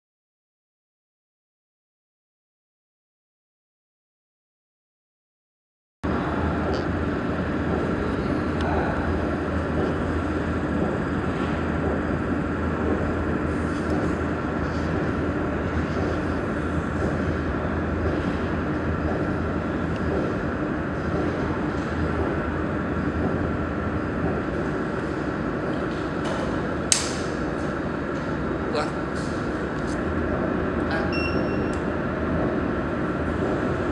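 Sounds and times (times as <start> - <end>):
machinery hum: 6.0 - 33.9.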